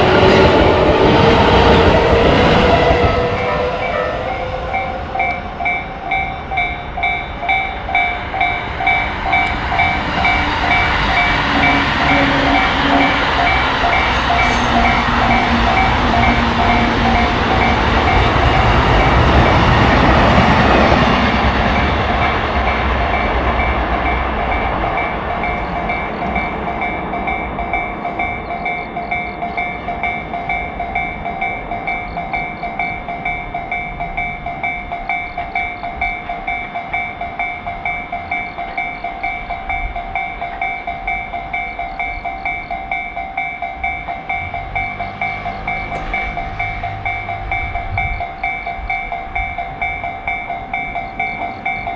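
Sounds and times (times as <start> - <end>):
railroad crossing bell ringing: 0.0 - 51.9
train rumbling past: 0.0 - 51.9.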